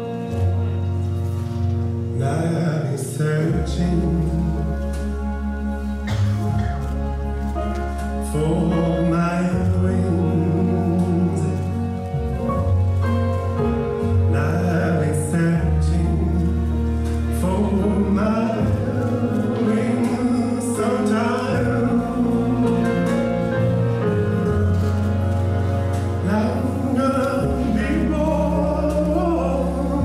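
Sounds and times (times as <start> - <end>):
long held bass notes: 0.0 - 30.0
recorded music with singing: 0.0 - 30.0.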